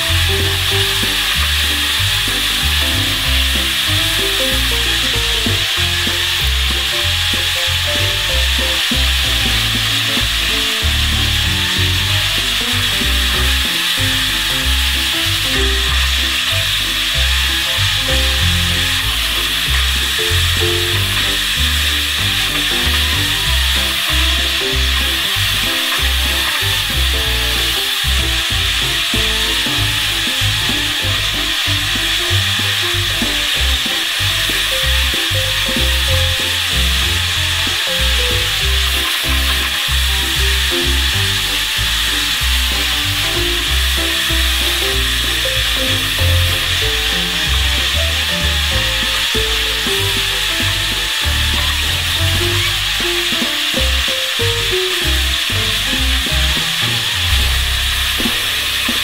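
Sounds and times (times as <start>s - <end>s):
background music: 0.0s - 59.0s
high sizzling hiss: 0.0s - 59.0s.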